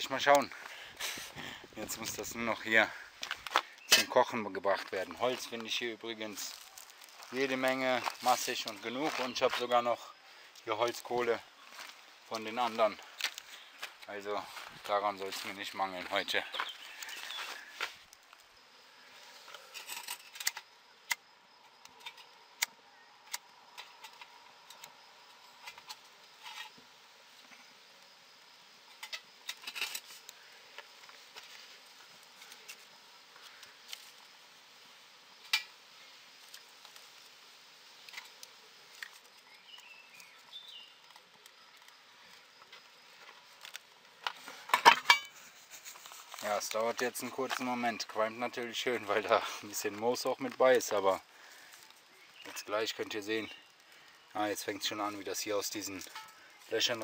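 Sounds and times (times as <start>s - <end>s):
clicks and taps of twigs: 0.0s - 18.6s, 19.2s - 34.4s, 35.3s - 57.0s.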